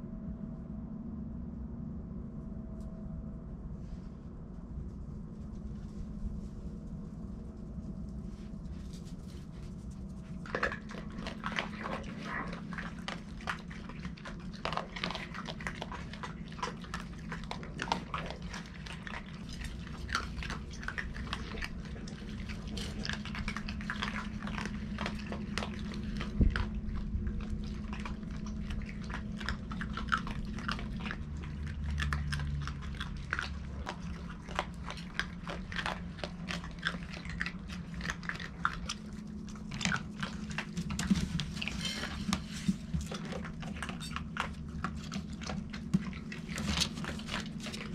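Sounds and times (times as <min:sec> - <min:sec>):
animals crunching kibble: 0:04.6 - 0:47.9.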